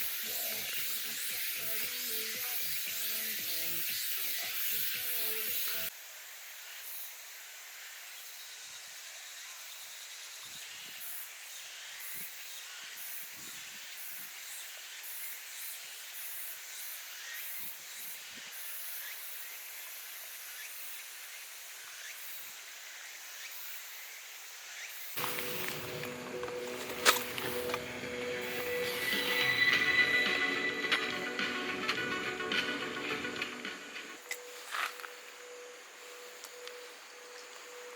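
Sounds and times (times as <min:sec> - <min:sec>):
outdoor ambient hiss: 0:00.0 - 0:37.9.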